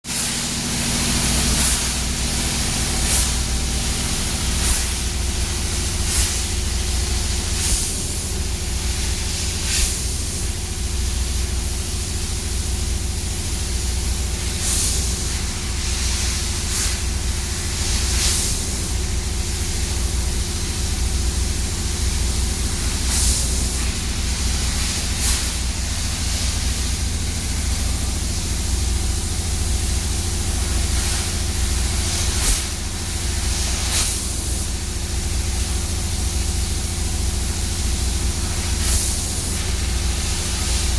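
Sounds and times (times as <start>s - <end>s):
laser cutter hissing: 0.1s - 40.9s
low machine hum: 0.1s - 40.9s.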